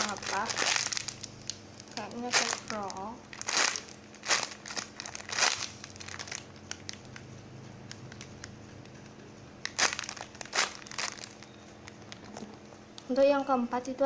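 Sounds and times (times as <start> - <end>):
squishy crinkling and crackling: 0.0 - 13.2.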